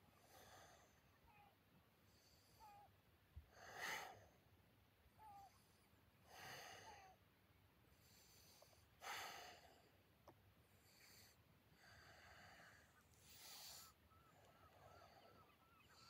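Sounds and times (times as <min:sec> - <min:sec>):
slow soft breaths: 0:00.0 - 0:04.6, 0:05.2 - 0:07.2, 0:07.8 - 0:16.0.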